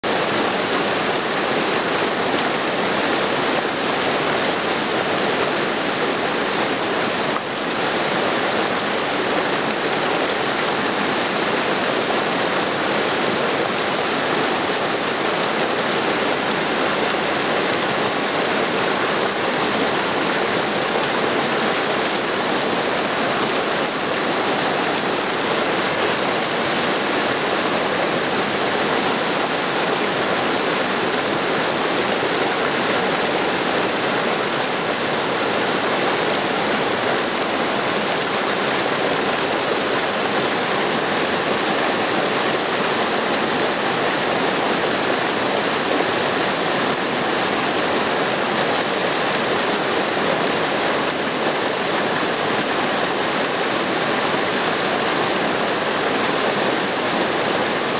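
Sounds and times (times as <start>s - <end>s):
waterfall rushing over boulders: 0.0s - 57.9s.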